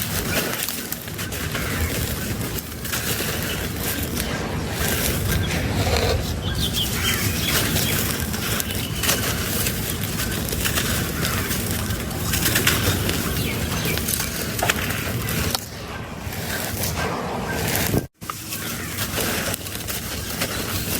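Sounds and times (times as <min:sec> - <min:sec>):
dry texture crumbling and crunching: 0:00.0 - 0:20.9.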